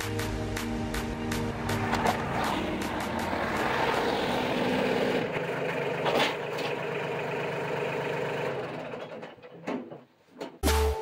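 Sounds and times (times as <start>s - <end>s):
tractor diesel engine rumble: 1.0s - 10.6s.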